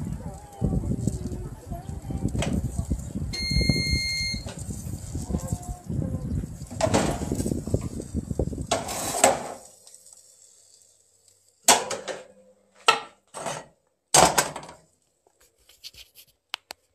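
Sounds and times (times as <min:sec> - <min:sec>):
background noise: 0:00.0 - 0:16.9.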